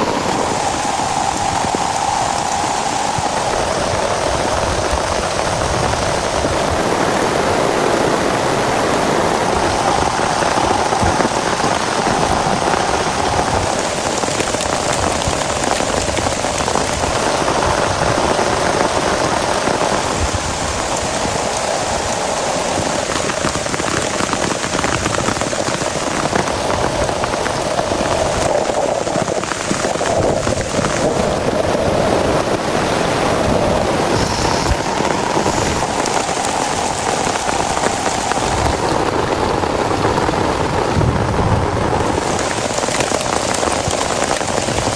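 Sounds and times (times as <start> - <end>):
heavy rain on a surface: 0.0 - 44.9.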